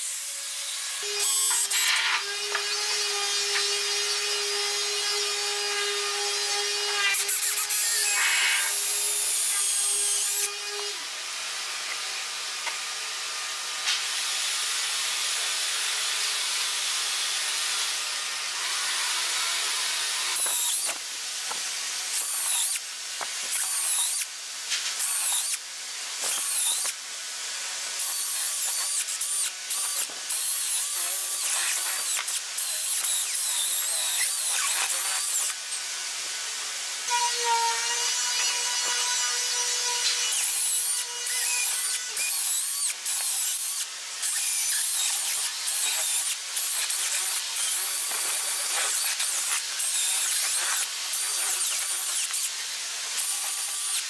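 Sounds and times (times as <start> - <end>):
cordless drill boring into wood: 0.0 - 36.0, 37.0 - 54.0.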